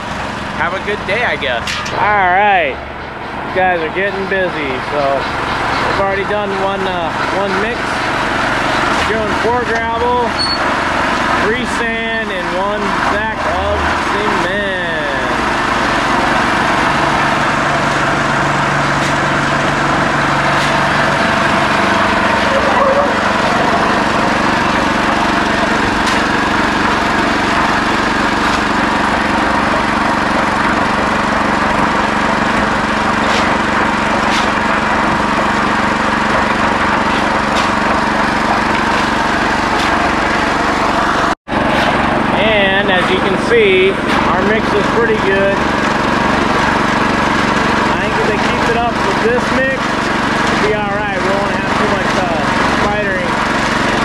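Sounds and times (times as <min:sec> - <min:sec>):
mixer drum churning gravel: 0:00.0 - 0:02.8, 0:03.4 - 0:54.0
small petrol engine running: 0:00.0 - 0:54.0.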